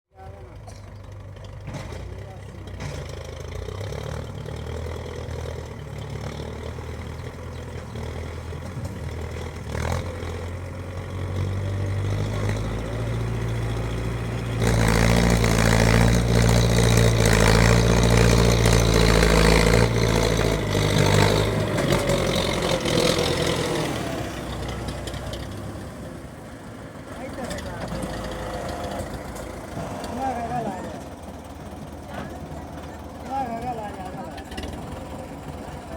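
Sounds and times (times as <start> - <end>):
tractor engine running: 0.2 - 35.9.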